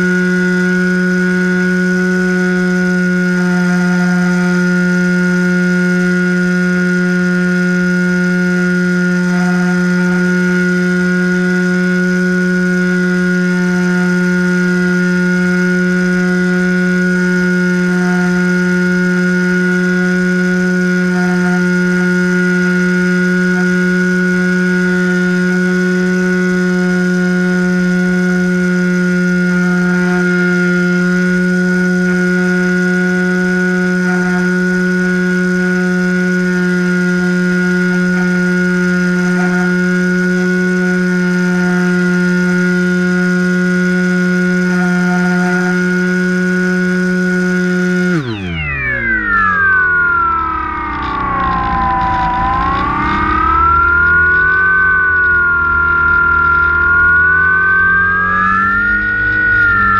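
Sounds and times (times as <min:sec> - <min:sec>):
model plane motor droning: 0:00.0 - 0:59.9.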